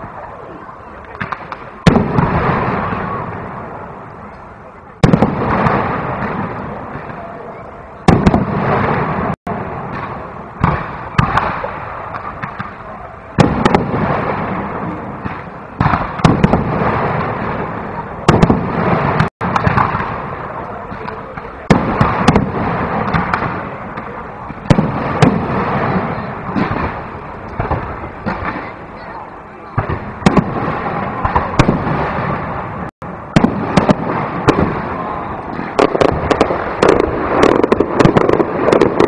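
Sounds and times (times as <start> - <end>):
firework crackling: 0.0 - 39.0.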